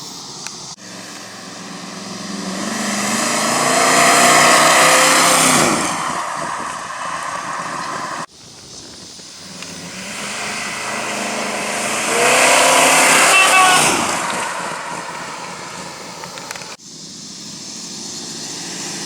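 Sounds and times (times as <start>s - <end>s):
car engine accelerating: 0.8s - 16.8s.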